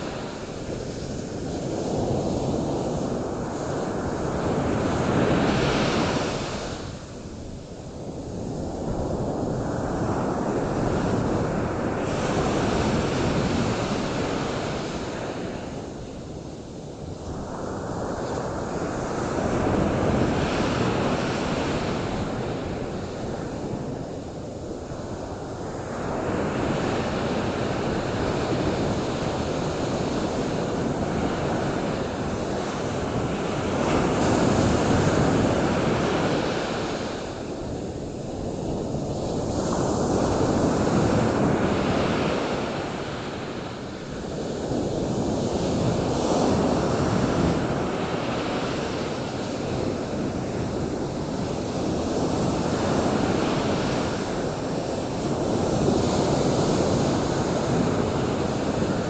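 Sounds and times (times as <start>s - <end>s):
ocean surf rushing: 0.0s - 59.0s.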